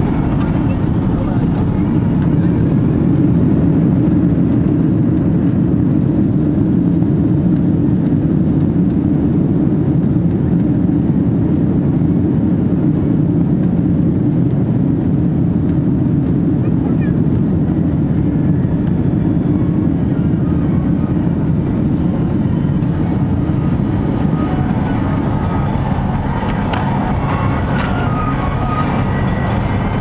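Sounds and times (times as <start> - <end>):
airliner engines rumbling in cabin: 0.0 - 30.0.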